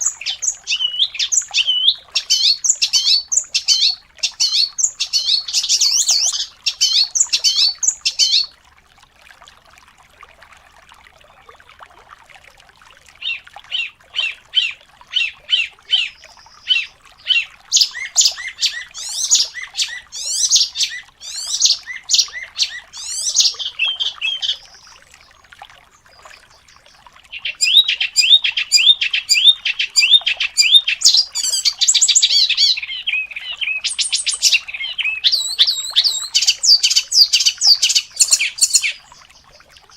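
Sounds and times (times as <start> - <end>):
songbird singing rapid chirps: 0.0 - 8.6, 13.1 - 39.9.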